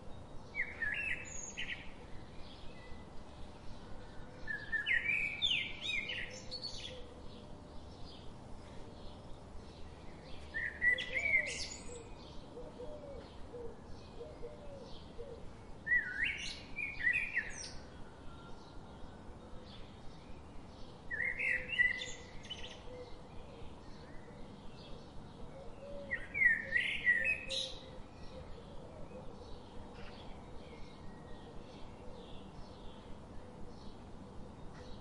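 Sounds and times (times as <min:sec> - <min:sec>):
bird singing loud song phrase: 0:00.0 - 0:35.0.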